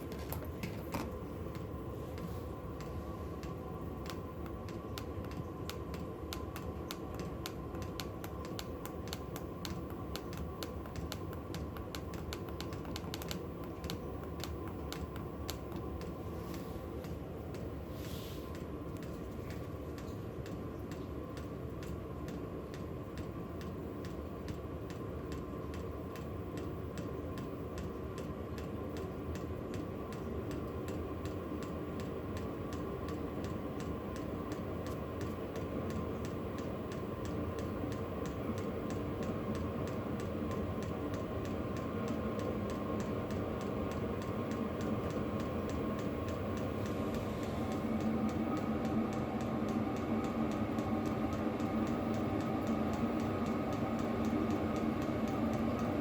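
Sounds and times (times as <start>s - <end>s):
heater blower whirring: 0.0s - 56.0s.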